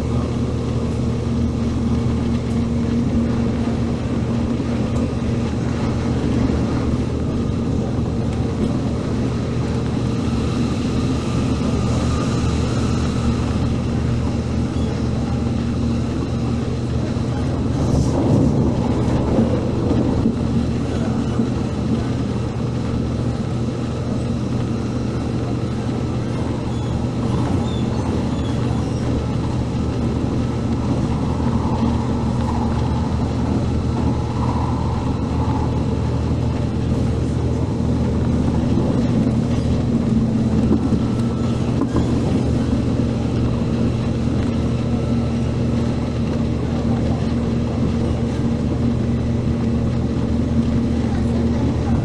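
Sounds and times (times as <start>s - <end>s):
traction motor hum: 0.0s - 52.0s
wheel-on-rail rumble: 0.0s - 52.0s.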